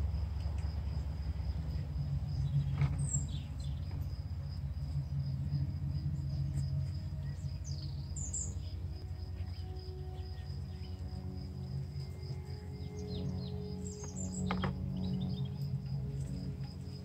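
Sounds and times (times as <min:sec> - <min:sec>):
high insect trill: 0:00.0 - 0:17.0
low rumble: 0:00.0 - 0:17.0
small birds chirping: 0:00.0 - 0:17.0.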